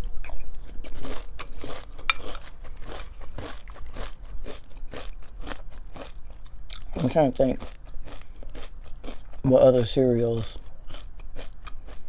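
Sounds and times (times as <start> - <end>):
person chewing crunchy cereal: 0.0 - 12.0.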